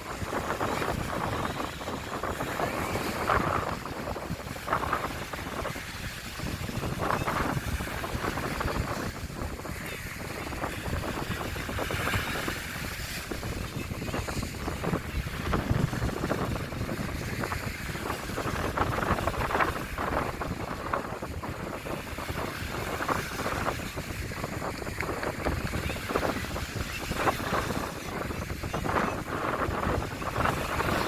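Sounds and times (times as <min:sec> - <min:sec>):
wind buffeting the microphone: 0:00.0 - 0:31.0.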